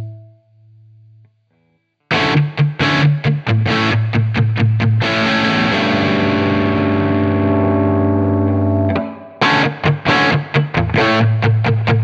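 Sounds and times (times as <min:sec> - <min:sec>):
distorted electric guitar chords: 0:02.1 - 0:12.0.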